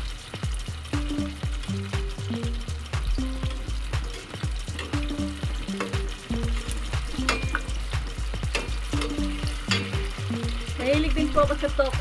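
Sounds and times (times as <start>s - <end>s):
tofu sizzling in hot oil: 0.0s - 12.0s.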